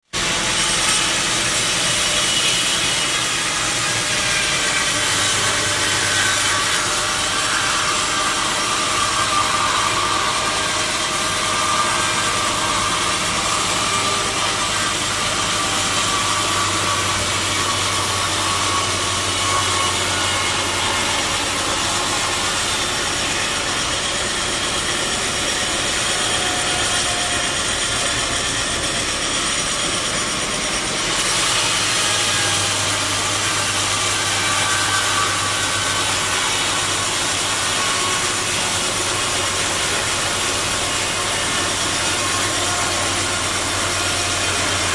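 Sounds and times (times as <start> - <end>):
band saw cutting wood: 0.0 - 44.9.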